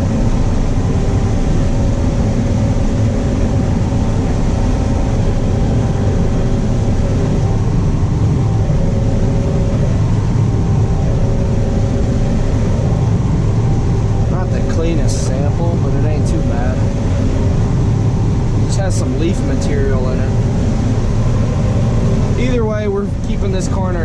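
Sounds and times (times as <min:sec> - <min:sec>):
combine harvester engine drone: 0:00.0 - 0:24.0
steady tones: 0:00.0 - 0:24.0.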